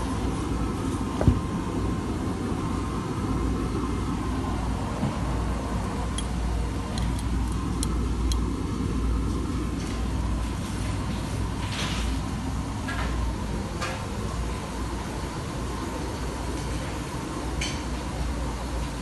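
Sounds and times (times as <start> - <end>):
washing machines and dryers rumbling: 0.0 - 19.0.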